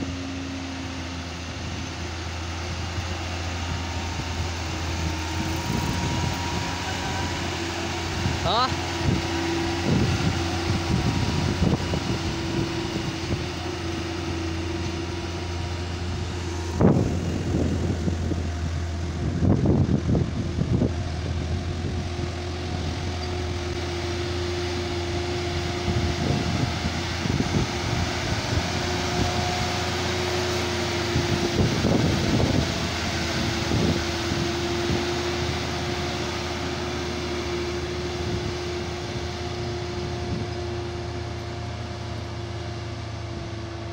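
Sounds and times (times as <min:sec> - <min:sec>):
road noise: 0:00.0 - 0:43.9
truck engine drone: 0:00.0 - 0:43.9.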